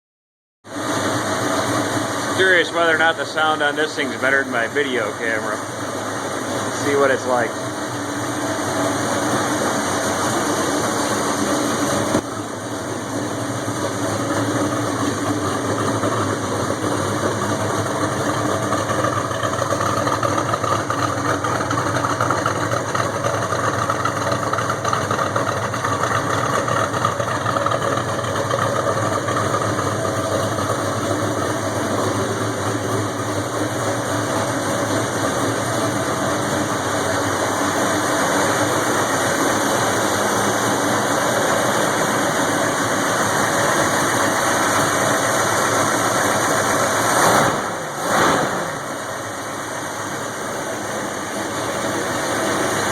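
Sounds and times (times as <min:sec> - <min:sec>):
car engine idling: 0:00.7 - 0:52.9.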